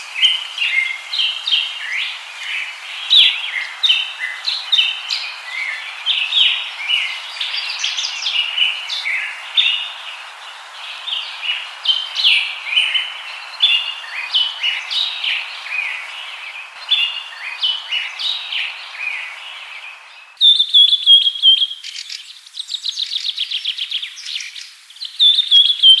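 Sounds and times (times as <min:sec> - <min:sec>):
birds chirping: 0:00.0 - 0:26.0
faint hiss: 0:00.0 - 0:26.0
whistled bird notes and trill: 0:00.0 - 0:26.0.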